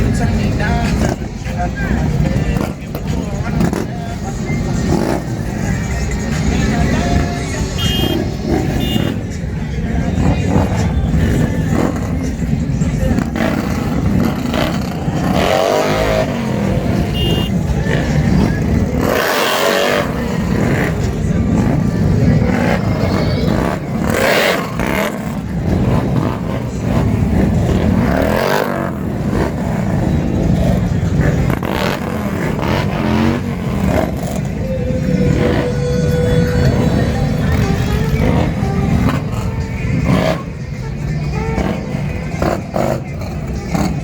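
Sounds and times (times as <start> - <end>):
motorcycle engines revving: 0.0 - 44.0
vehicles passing by: 0.0 - 44.0.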